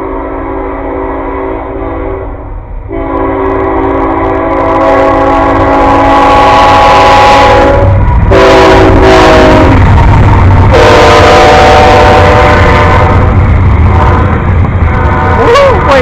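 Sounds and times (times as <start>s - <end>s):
train horn blasts: 0.0s - 10.1s, 10.7s - 16.0s
train rumbling: 0.0s - 16.0s.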